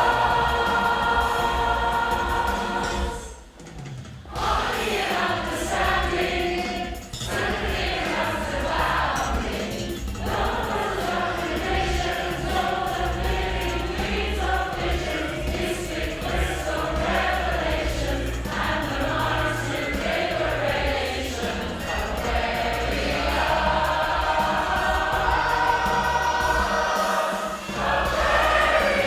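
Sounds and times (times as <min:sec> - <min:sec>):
women's choir singing: 0:00.0 - 0:03.5, 0:04.3 - 0:29.0.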